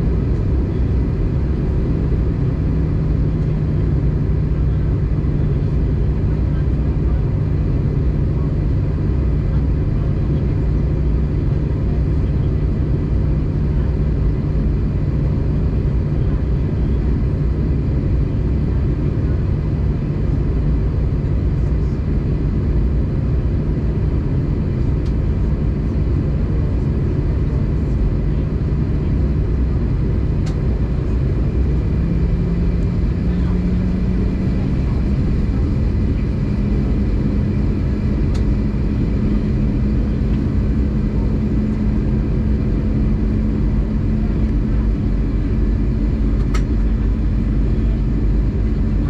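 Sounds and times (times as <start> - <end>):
aircraft cabin engine drone: 0.0 - 49.0.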